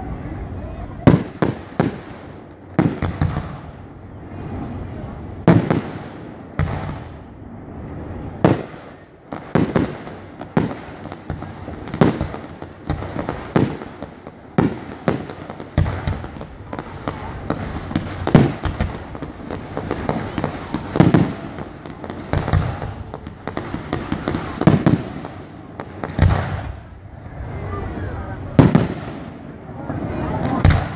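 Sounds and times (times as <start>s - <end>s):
fireworks bangs: 0.0s - 30.9s
fireworks crackling and pops: 0.0s - 30.9s.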